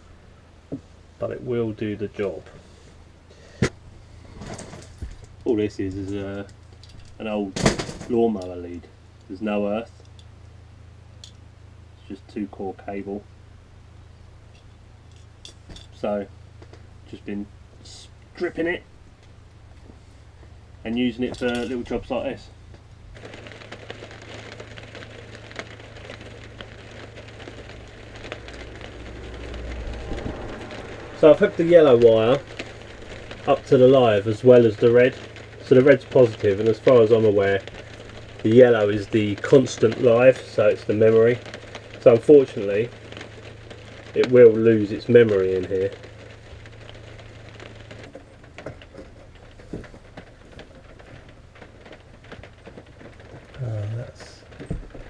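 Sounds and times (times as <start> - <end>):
electrical wires clicking and rustling: 0.0 - 10.3, 14.4 - 55.0
steady low hum: 0.0 - 55.0.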